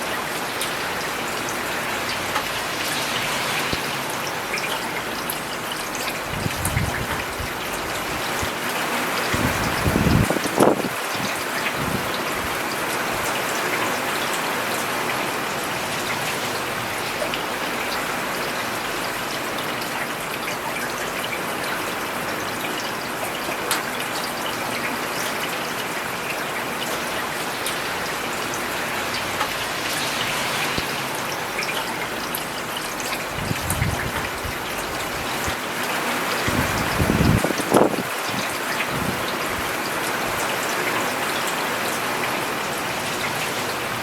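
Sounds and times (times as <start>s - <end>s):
rain falling on a paved road: 0.0s - 44.0s.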